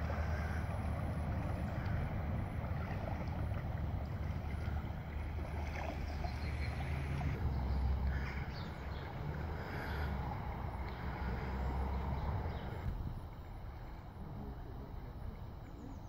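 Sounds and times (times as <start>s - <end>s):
faint outdoor hiss: 0.0s - 16.0s
wind rumble on microphone: 0.0s - 16.0s.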